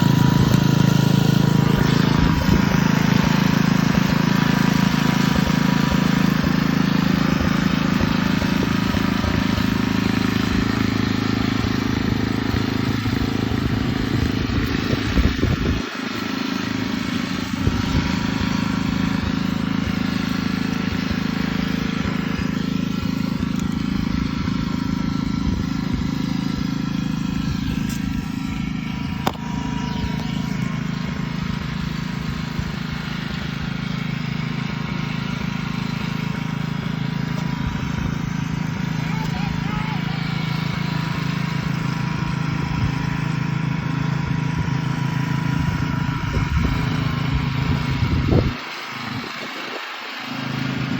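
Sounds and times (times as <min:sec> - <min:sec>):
lawn mower engine cutting grass: 0:00.0 - 0:50.9.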